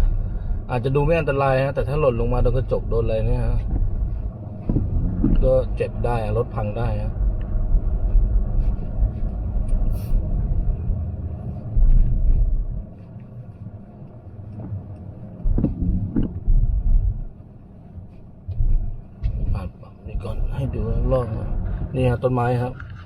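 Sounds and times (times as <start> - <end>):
car cabin rumble: 0.0 - 23.0.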